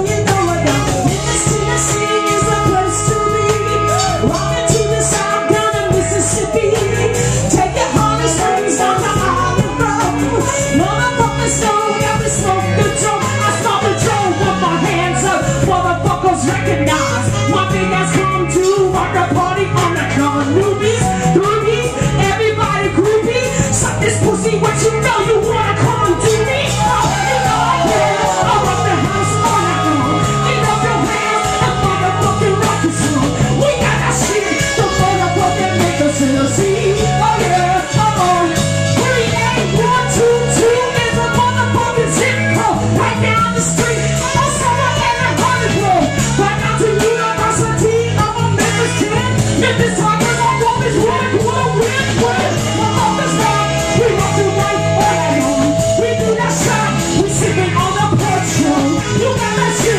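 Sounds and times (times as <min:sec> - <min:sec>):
funk band playing: 0:00.0 - 0:59.9
woman singing: 0:00.0 - 0:59.9.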